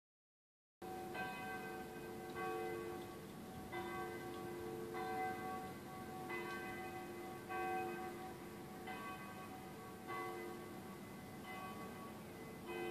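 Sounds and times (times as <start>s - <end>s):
church bells ringing: 0.8s - 12.9s.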